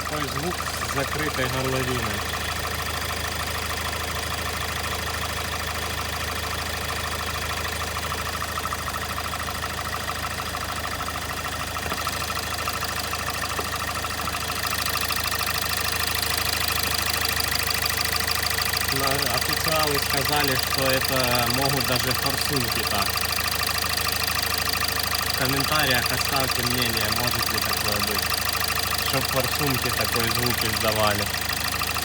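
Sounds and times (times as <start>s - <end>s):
diesel engine idling with knocking: 0.0s - 32.0s.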